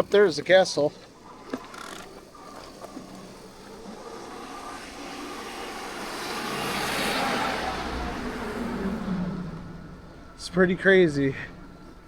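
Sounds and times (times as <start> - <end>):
road vehicle approaching: 1.0 - 12.0.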